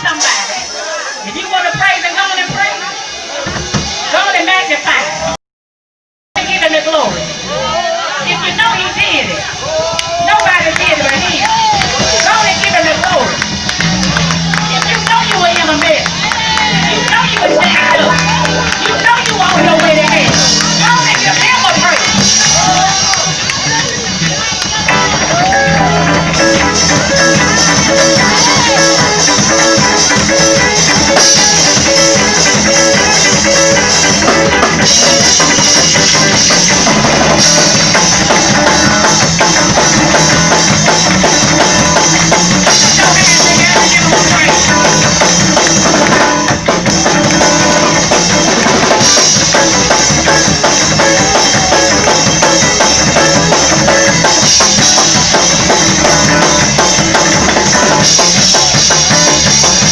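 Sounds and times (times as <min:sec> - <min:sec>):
guitar: 0:06.4 - 0:59.9
drum kit: 0:08.4 - 0:59.9.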